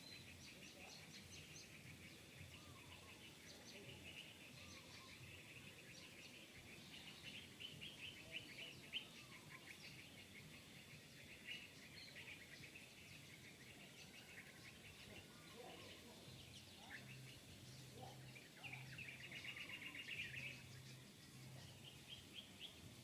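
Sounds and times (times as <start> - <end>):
low background hiss: 0.0 - 23.0
small birds chirping: 0.0 - 23.0.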